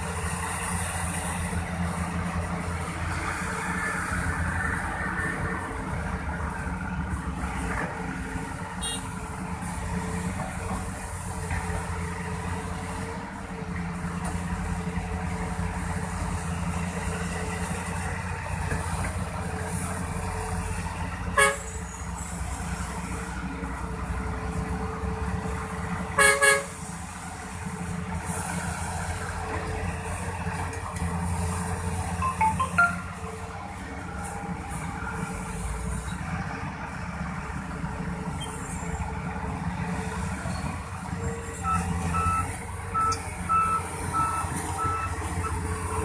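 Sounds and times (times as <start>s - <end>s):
diesel excavator engine running: 0.0s - 46.0s.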